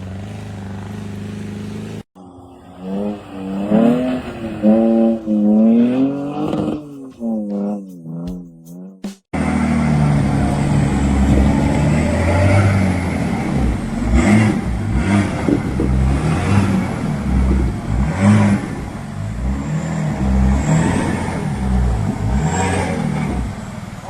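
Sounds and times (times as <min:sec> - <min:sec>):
engine revving under load: 0:00.0 - 0:08.4, 0:09.4 - 0:24.0.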